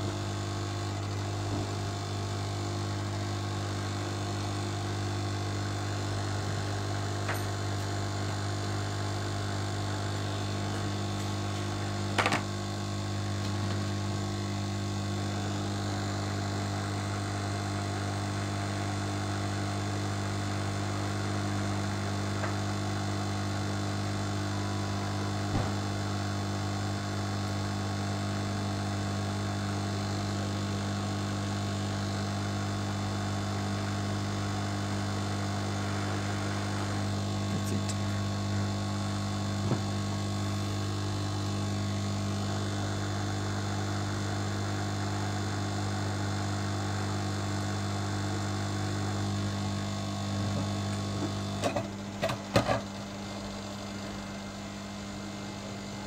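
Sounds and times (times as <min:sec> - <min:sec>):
hot-air blower humming: 0:00.0 - 0:56.0.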